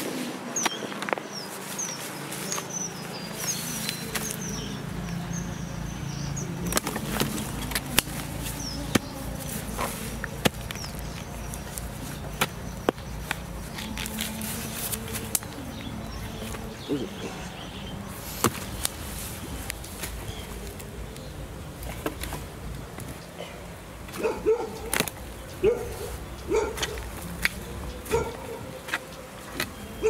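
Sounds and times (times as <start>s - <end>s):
bird chirping: 0.5s - 30.0s.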